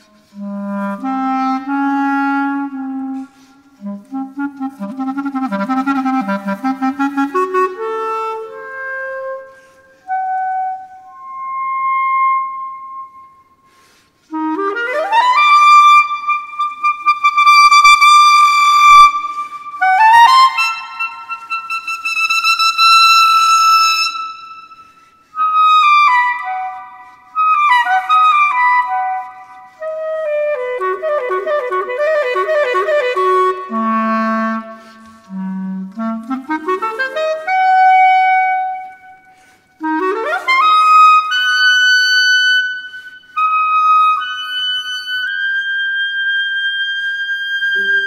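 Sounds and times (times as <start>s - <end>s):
solo clarinet playing: 0.0s - 48.0s.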